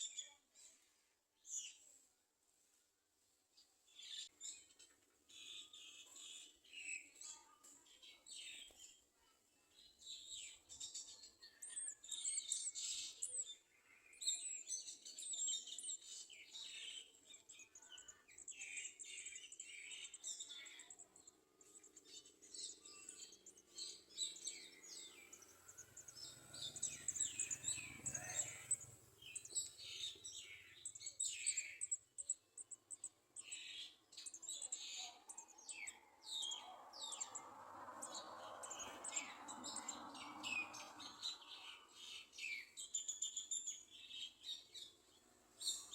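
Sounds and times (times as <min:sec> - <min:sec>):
birds chirping: 0:04.0 - 0:45.9.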